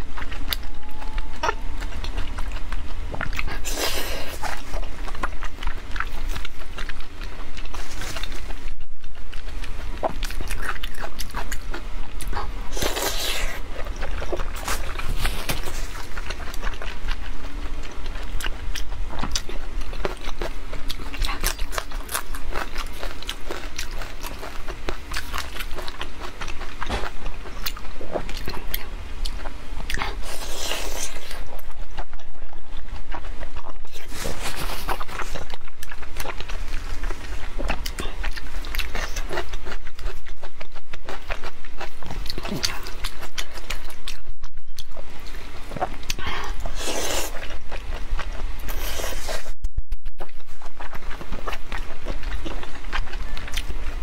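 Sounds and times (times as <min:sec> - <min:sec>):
steady low hum: 0:00.0 - 0:54.0
wet chewing and lip smacking: 0:00.0 - 0:54.0.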